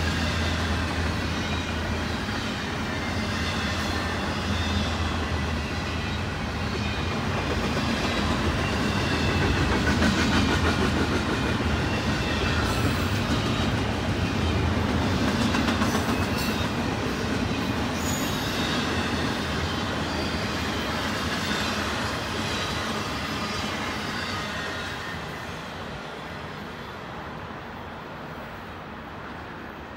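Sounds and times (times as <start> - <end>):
train wheels rumbling on rails: 0.0 - 29.9.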